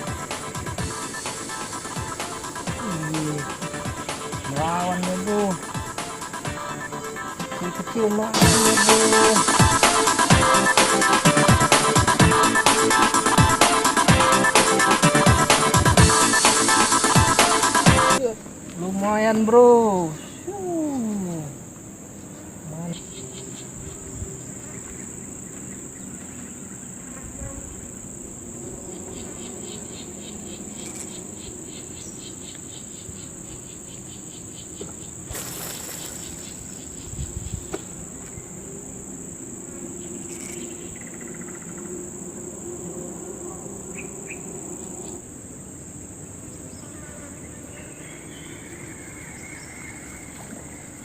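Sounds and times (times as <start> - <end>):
fast pulsing insect chirp: 0.0 - 51.0
insects chirring: 0.0 - 51.0.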